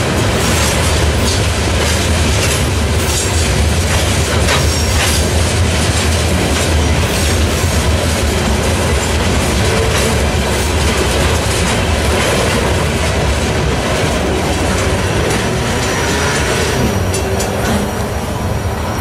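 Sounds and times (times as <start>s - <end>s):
train wheels clacking on rails: 0.0s - 19.0s.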